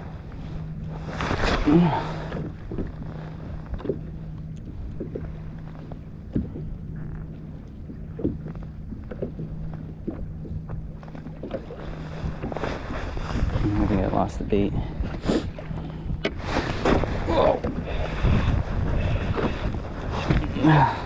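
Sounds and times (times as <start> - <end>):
waves slapping kayak hull: 0.0 - 21.0
wind rumble on microphone: 0.0 - 21.0.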